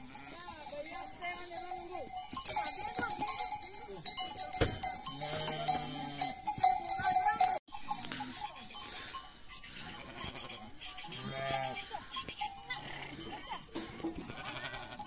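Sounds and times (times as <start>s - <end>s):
animal bells clinking: 0.0s - 15.0s
goats and sheep bleating: 0.0s - 15.0s.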